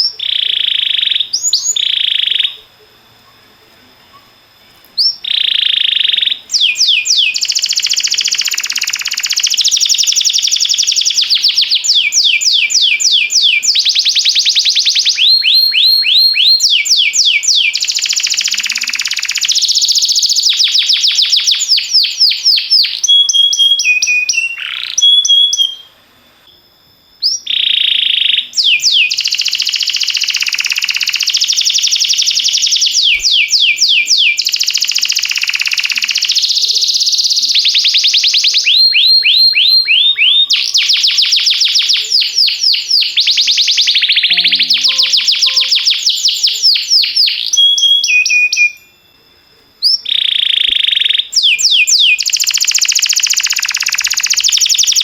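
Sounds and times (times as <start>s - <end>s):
canary singing trills: 0.0s - 25.9s, 27.1s - 49.2s, 49.8s - 55.0s.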